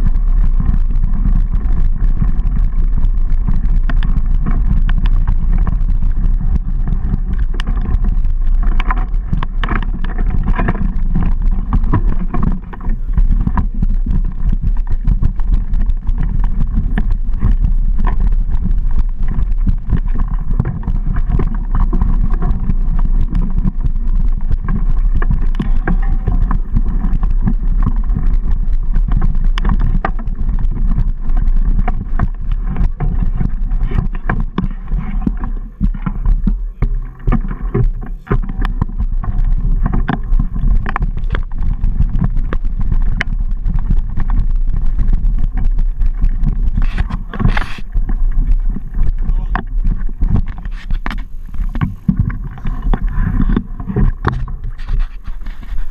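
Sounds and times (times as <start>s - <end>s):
bike rattling: 0.0s - 55.9s
bike tyres rolling on dirt: 0.0s - 55.9s
low rumble: 0.0s - 55.9s.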